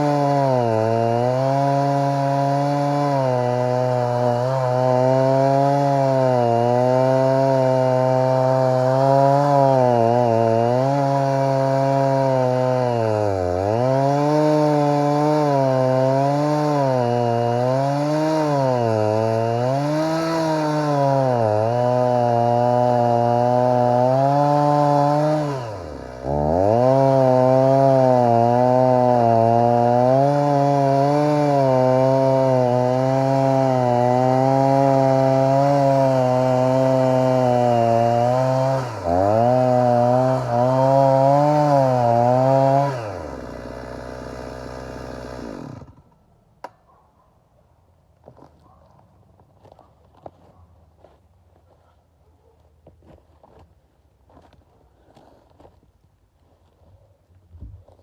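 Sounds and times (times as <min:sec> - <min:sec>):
chainsaw cutting wood: 0:00.0 - 0:46.8.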